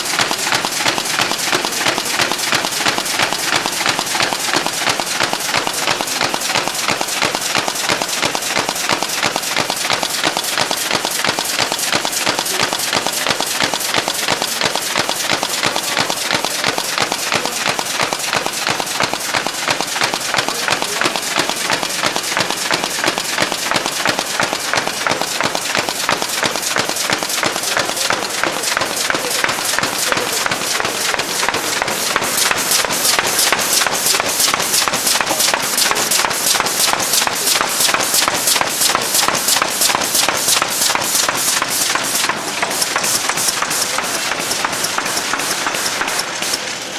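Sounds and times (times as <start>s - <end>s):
carton folding machine clatter: 0.0s - 46.9s.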